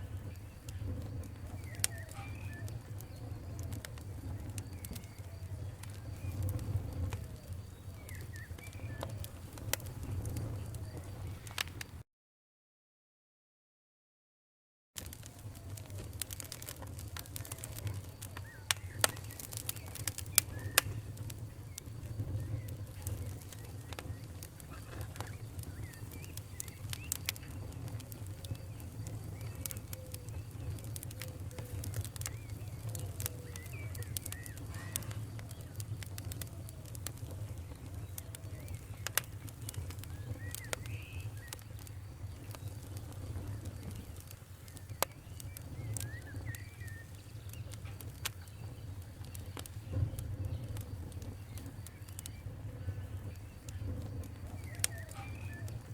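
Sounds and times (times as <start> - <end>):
wood fire crackling: 0.0 - 12.0, 15.0 - 55.9.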